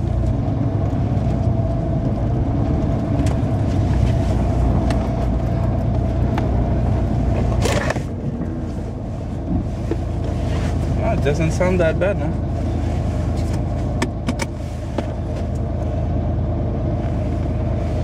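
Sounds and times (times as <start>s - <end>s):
truck engine rumble: 0.0s - 18.0s.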